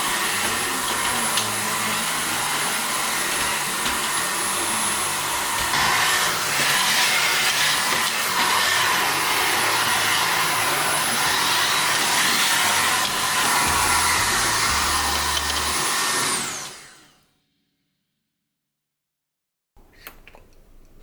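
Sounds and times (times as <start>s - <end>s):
vacuum motor winding down: 0.0s - 17.1s
cordless vacuum whining: 0.0s - 17.2s.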